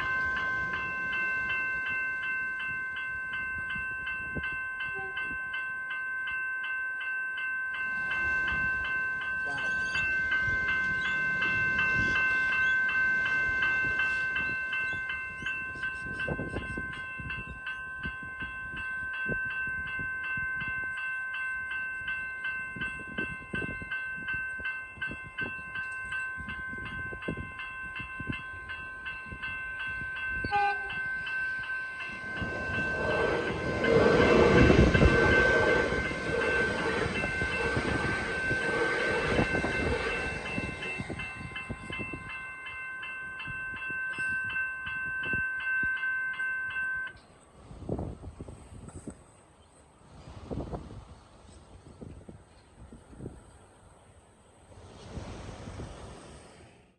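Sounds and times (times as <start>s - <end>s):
level crossing bell ringing: 0.0s - 47.2s
train rumble and wheel noise: 0.0s - 56.9s.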